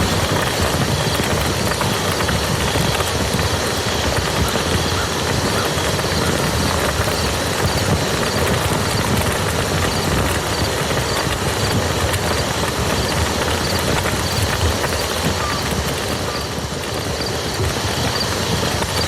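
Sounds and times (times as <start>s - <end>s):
heavy rain on muddy ground: 0.0s - 19.0s.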